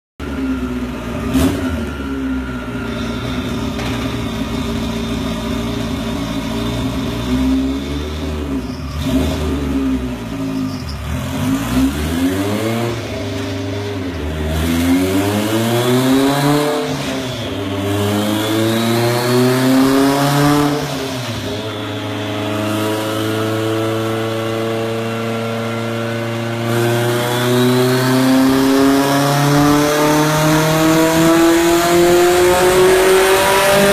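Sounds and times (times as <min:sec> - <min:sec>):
turbocharged engine revving: 0:00.3 - 0:33.9.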